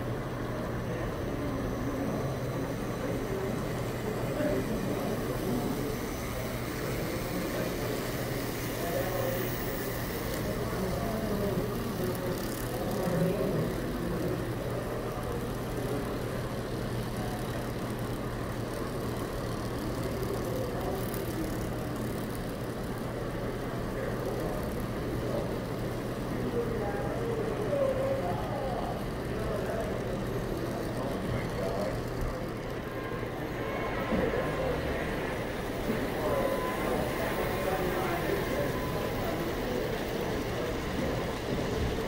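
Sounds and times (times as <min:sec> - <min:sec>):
crowd chatter: 0:00.0 - 0:42.0.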